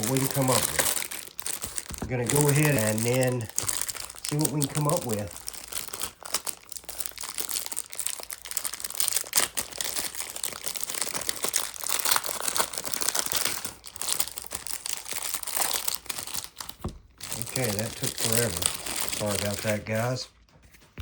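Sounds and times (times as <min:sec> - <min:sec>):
plastic wrapper crinkling: 0:00.0 - 0:20.2.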